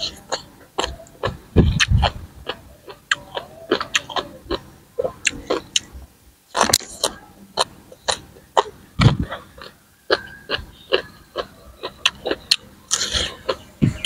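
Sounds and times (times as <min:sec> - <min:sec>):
wet chewing and crunching: 0:00.0 - 0:14.0.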